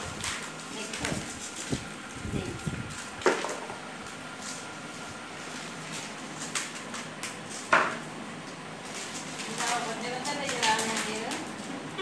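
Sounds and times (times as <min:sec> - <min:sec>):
maize kernels rustling: 0:00.0 - 0:11.9.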